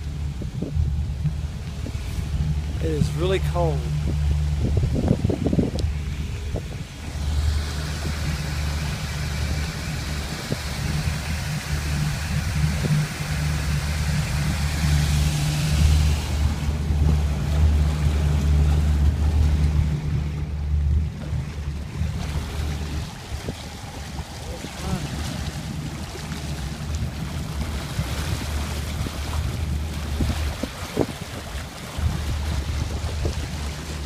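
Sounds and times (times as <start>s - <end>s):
boat engine humming: 0.0s - 34.0s
propeller churning water: 0.0s - 34.0s.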